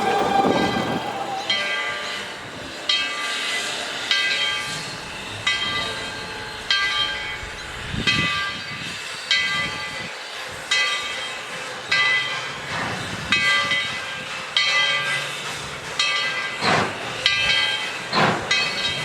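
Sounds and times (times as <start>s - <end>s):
steam locomotive bell ringing: 0.0s - 19.0s.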